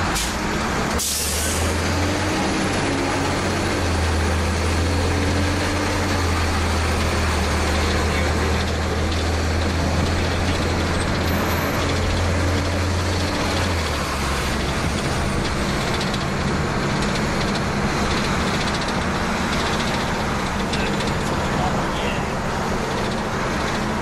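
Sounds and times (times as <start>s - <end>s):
diesel engine running: 0.0s - 24.0s
road and traffic noise: 0.0s - 24.0s.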